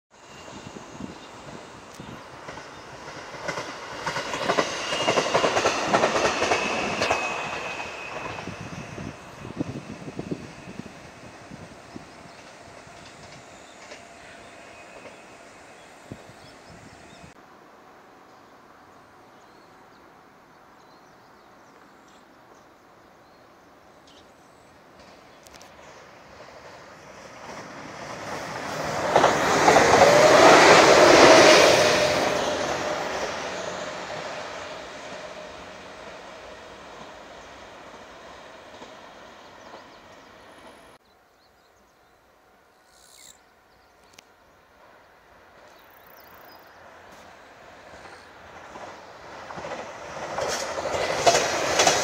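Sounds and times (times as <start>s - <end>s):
faint outdoor ambience: 0.1s - 52.0s
passing train running noise: 0.1s - 52.0s.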